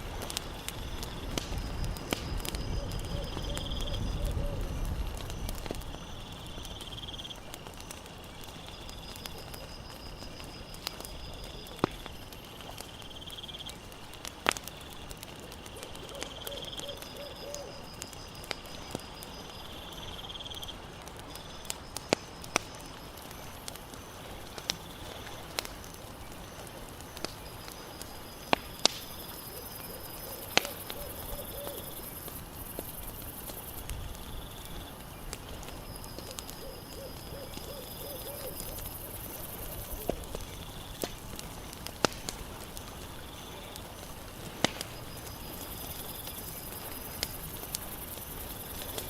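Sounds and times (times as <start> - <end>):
campfire crackling and popping: 0.0 - 49.0
night insects trilling: 0.0 - 49.0.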